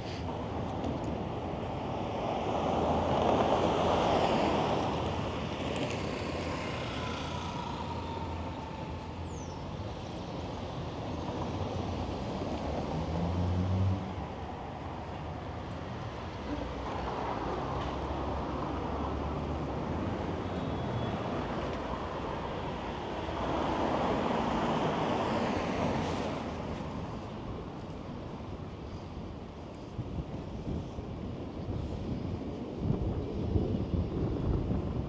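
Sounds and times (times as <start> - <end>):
steady traffic noise: 0.0 - 35.0.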